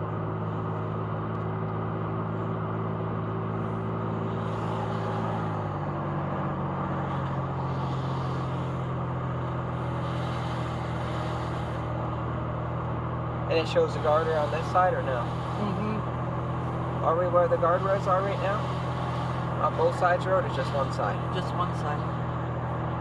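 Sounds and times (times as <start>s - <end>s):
car engine hum: 0.0s - 23.0s
road noise: 0.0s - 23.0s.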